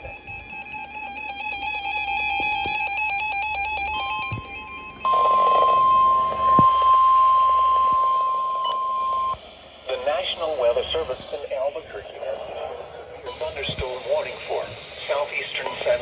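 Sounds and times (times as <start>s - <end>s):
steady loud alarm tone: 0.0s - 16.0s.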